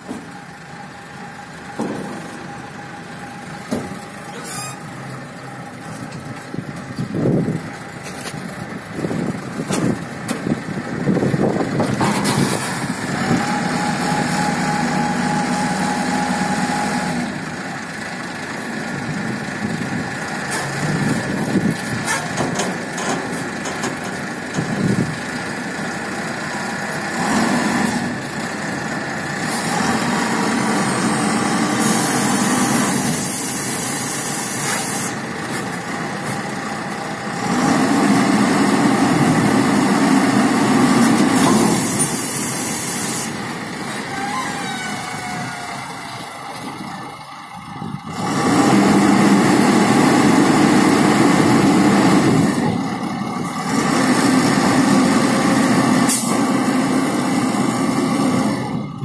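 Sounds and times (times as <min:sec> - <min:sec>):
concrete mixer engine running: 0:00.0 - 0:59.0.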